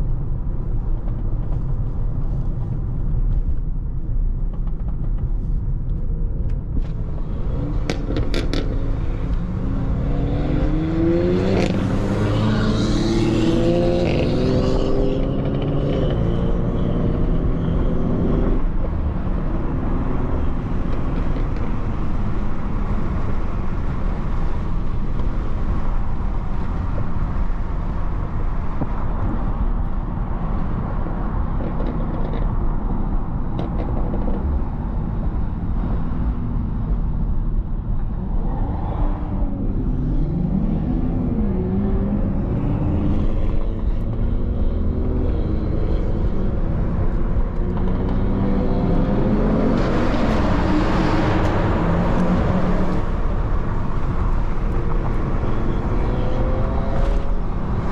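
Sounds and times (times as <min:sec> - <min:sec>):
road rumble: 0:00.0 - 0:57.9
car engine accelerating: 0:06.8 - 0:33.2, 0:33.8 - 0:57.9.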